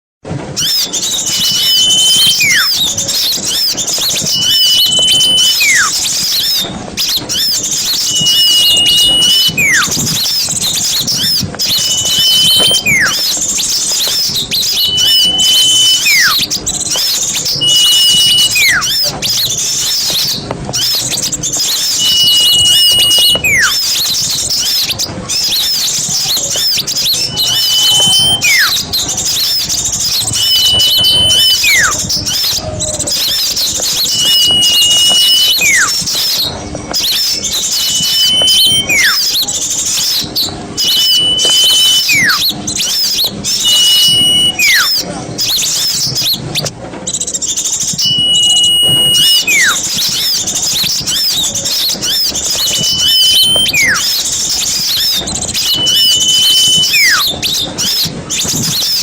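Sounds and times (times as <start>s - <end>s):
small birds chattering: 0.4s - 59.0s
falling whistle: 0.6s - 46.7s, 47.5s - 59.0s.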